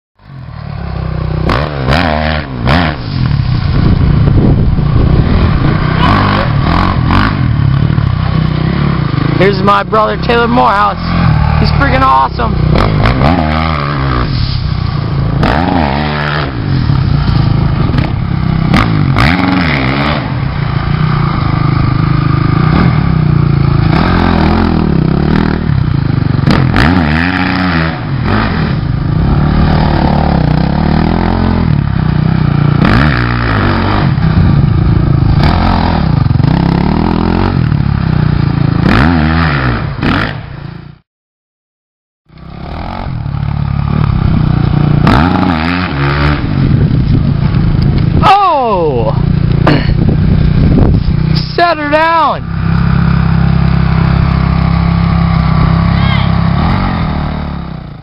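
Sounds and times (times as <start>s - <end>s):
motorcycle engine revving: 0.2s - 41.0s, 42.3s - 58.0s.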